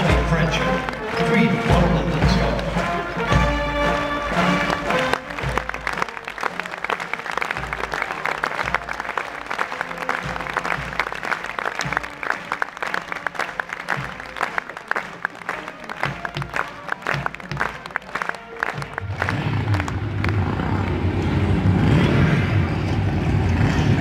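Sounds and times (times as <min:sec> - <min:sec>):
crowd applauding: 0:00.0 - 0:24.0.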